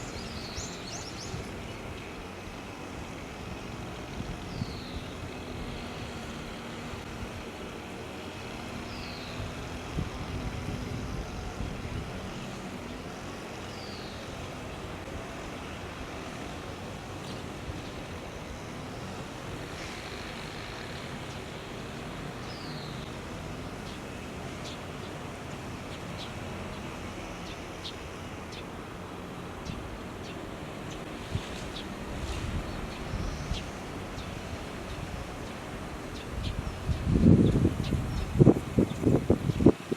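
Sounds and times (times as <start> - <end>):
distant road traffic: 0.0 - 39.9.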